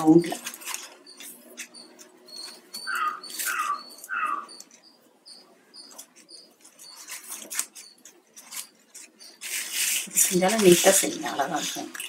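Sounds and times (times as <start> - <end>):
birds chirping: 0.0 - 11.6.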